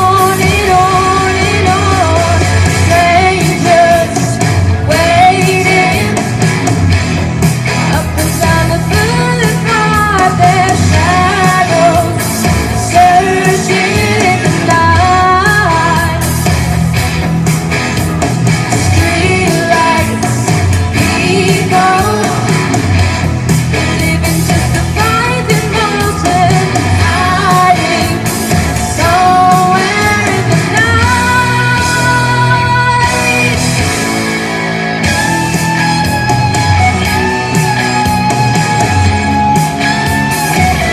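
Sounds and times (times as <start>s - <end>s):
band with guitar and drums: 0.0s - 40.9s
person singing rock song: 0.0s - 40.9s.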